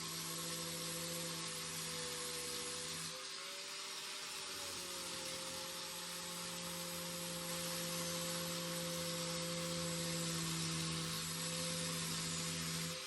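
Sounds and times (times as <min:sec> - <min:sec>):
hiss: 0:00.0 - 0:13.0
small motor humming: 0:00.0 - 0:13.0.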